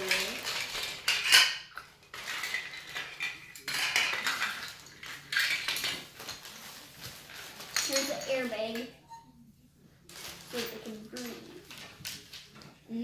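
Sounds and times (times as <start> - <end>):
plastic bags crinkling: 0.0 - 8.8, 10.1 - 12.6
plastic toy parts clattering: 0.0 - 8.9, 10.1 - 12.7.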